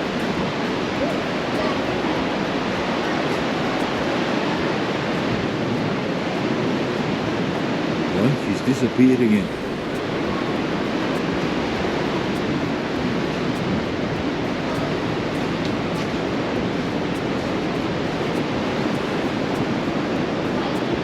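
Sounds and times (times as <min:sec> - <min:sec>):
ocean surf: 0:00.0 - 0:21.0.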